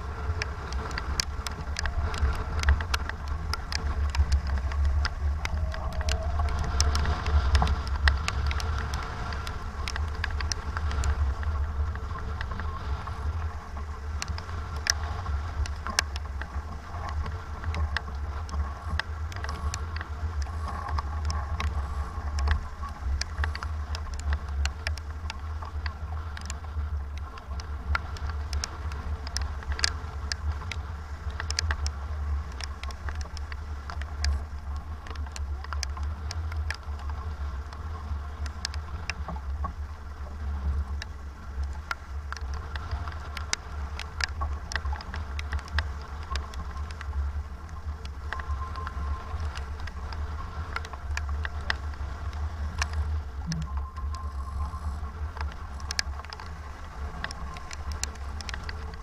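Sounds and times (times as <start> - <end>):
rain and spray ticking: 0.0 - 59.0
wind rumbling on microphone: 0.0 - 59.0.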